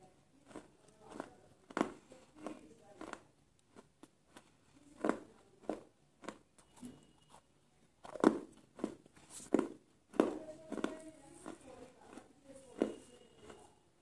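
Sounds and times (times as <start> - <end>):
person chewing crunchy food: 0.4 - 13.7.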